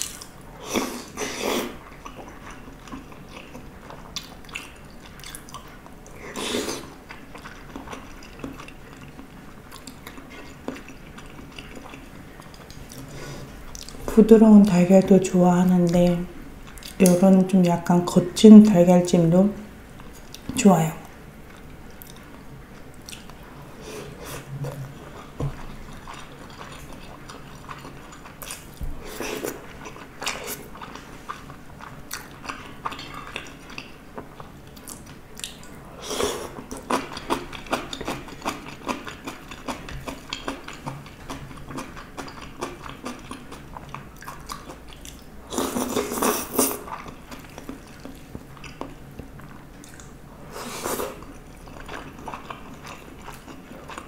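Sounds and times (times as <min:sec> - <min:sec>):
person chewing with wet mouth sounds: 0:00.0 - 0:14.8, 0:15.7 - 0:17.8, 0:21.4 - 0:54.0.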